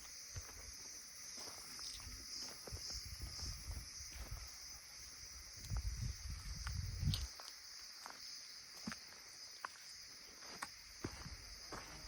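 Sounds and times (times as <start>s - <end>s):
footsteps on trail: 0.0s - 4.7s, 5.5s - 12.0s
insects chirring: 0.0s - 12.0s.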